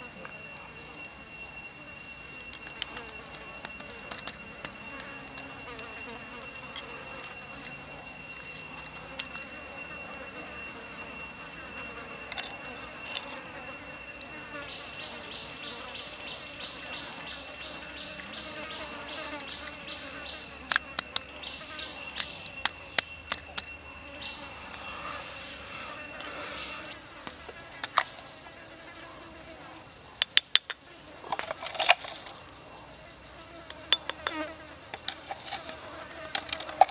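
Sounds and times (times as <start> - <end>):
insect high trill: 0.0 - 36.9
pulsing insect chirp: 0.0 - 36.9.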